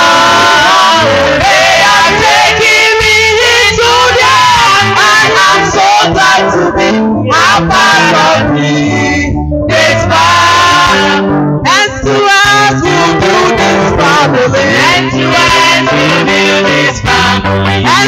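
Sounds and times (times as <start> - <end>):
instrumental accompaniment with bass: 0.0 - 18.0
voices singing: 0.0 - 18.0.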